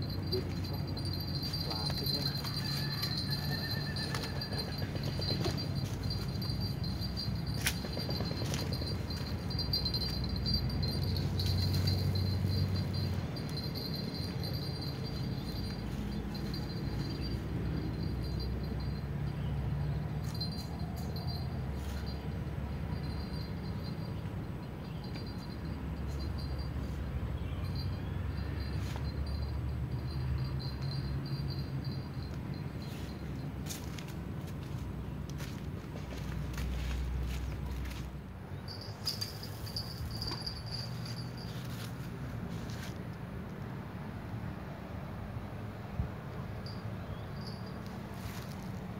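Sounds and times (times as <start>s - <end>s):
insect chirping trill: 0.0s - 34.4s, 37.9s - 42.0s, 46.6s - 48.9s
outdoor background: 0.0s - 48.9s.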